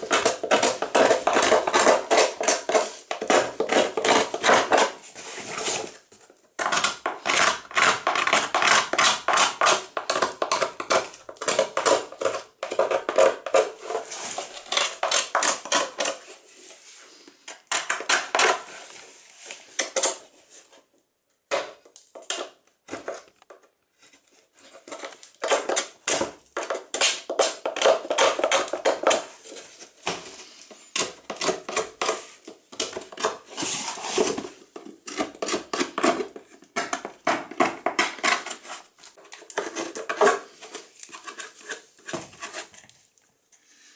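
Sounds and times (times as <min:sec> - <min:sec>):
hand tool scraping plastic: 0:00.0 - 0:20.9, 0:21.5 - 0:43.9.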